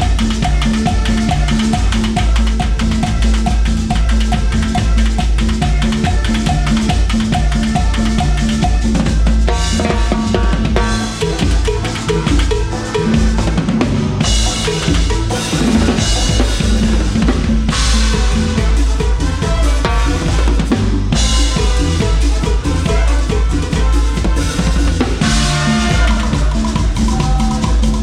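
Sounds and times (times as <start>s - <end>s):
drum kit groove: 0.0s - 28.0s
live cumbia band playing: 0.0s - 28.0s.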